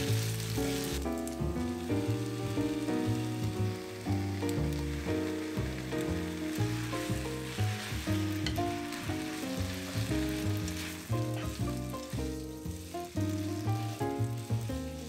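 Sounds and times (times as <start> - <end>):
background music: 0.0 - 15.0
noodles sizzling in a pan: 0.0 - 15.0.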